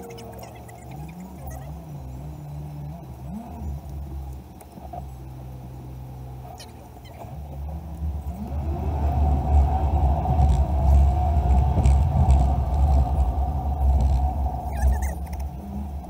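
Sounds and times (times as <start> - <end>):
car engine accelerating: 0.0 - 16.0
low road rumble: 0.0 - 16.0.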